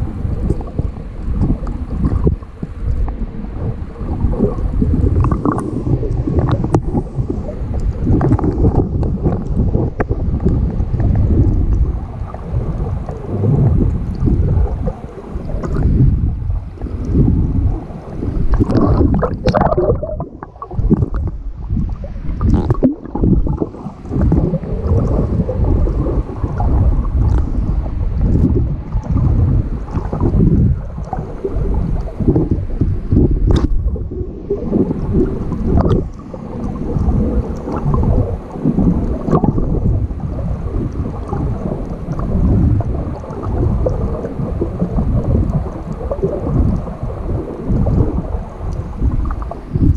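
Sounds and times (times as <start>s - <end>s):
underwater water rumble: 0.0s - 49.9s.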